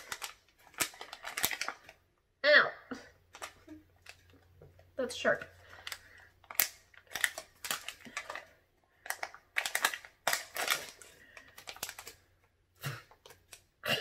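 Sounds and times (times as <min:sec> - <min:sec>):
foil packet crinkling: 0:00.0 - 0:02.1, 0:03.3 - 0:04.5, 0:05.1 - 0:13.8.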